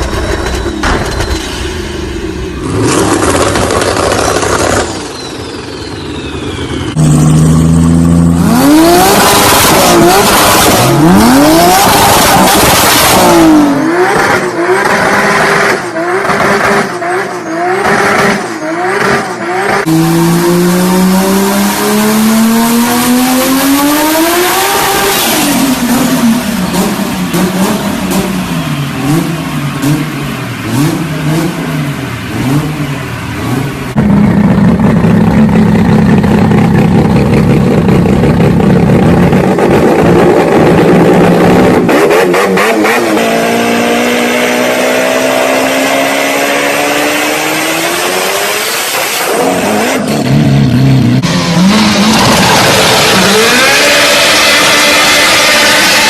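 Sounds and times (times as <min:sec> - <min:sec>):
steady engine drone: 0:00.0 - 0:17.8, 0:18.8 - 0:48.5
car engines revving hard: 0:02.5 - 0:56.0.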